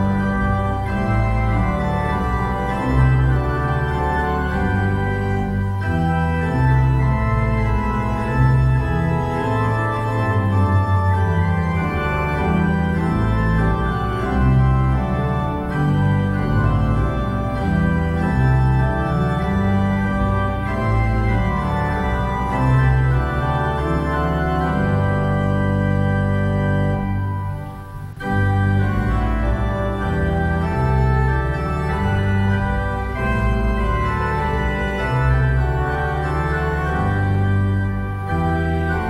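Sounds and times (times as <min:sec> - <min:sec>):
church organ playing a hymn: 0:00.0 - 0:39.0.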